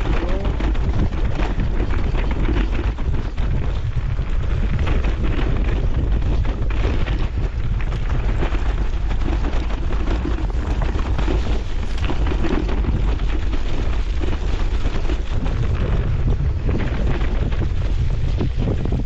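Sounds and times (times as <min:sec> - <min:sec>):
bike knocks and rattles: 0:00.0 - 0:19.0
wind rushing over microphone: 0:00.0 - 0:19.0.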